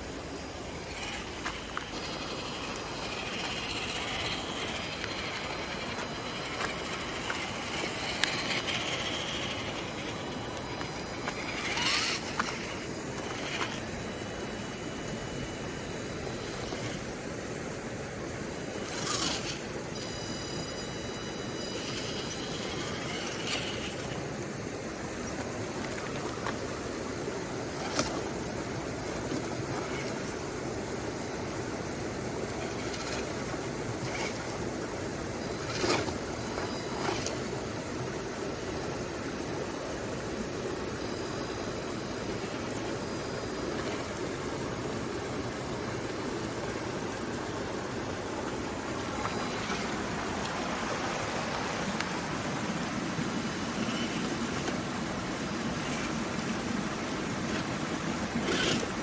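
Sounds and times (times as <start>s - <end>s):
flowing water rushing: 0.0s - 20.1s, 21.4s - 59.0s
faint high electric motor whine: 0.0s - 59.0s.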